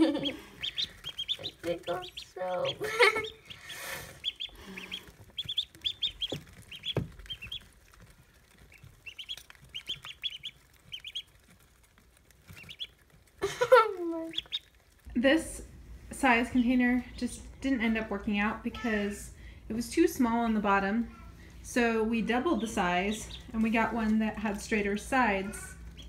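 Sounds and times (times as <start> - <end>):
ducklings peeping: 0.0 - 26.0.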